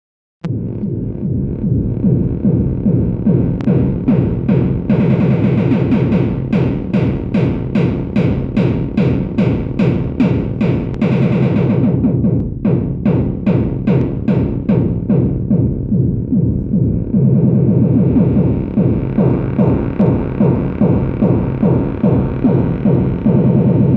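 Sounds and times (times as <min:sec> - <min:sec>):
low sweeping synth drum: 0:00.4 - 0:23.9
bright noisy synth strikes: 0:00.5 - 0:23.9.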